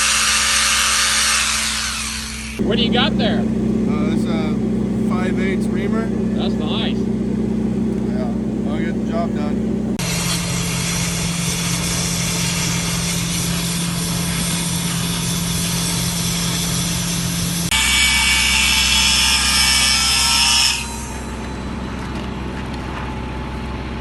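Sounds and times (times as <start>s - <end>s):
high-pitched grinding: 0.0s - 22.2s
power tool motor drone: 0.0s - 23.7s.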